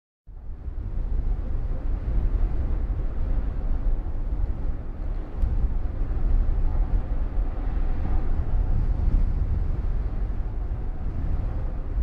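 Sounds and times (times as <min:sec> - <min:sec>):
steady wind rushing: 0:00.3 - 0:12.0.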